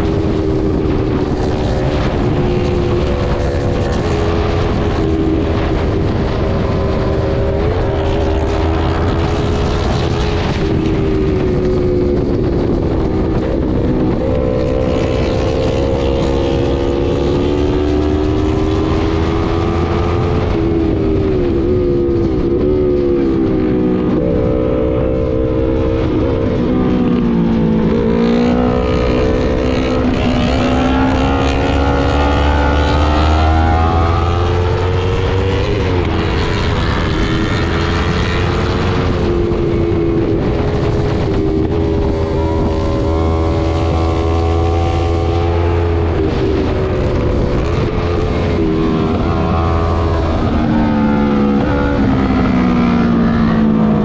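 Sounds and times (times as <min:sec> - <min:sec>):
heavy wind noise: 0:00.0 - 0:54.0
motorcycle engine: 0:00.0 - 0:54.0.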